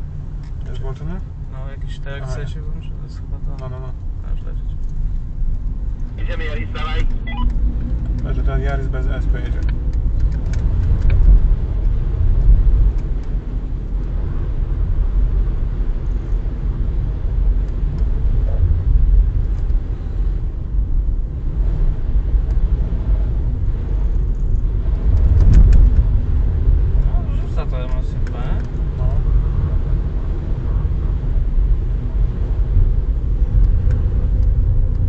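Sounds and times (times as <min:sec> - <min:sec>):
car engine and tyre rumble: 0:00.0 - 0:35.0.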